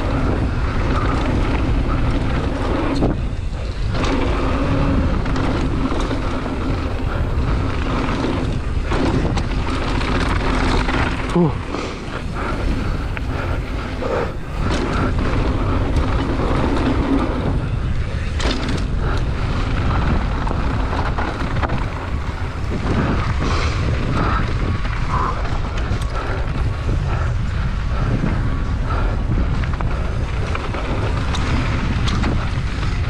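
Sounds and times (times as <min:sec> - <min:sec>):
bike knocks and rattles: 0:00.0 - 0:33.0
tyres running over gravel: 0:00.0 - 0:33.0
wind rushing over microphone: 0:00.0 - 0:33.0.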